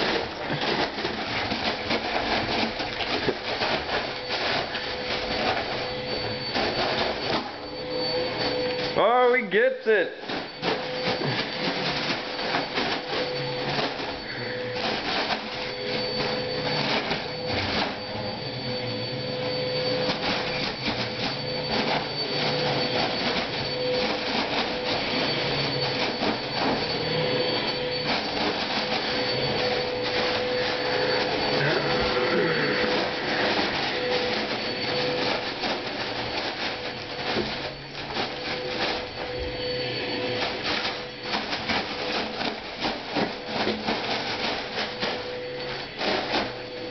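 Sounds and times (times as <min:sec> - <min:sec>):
foil balloon crinkling: 0:00.0 - 0:46.9.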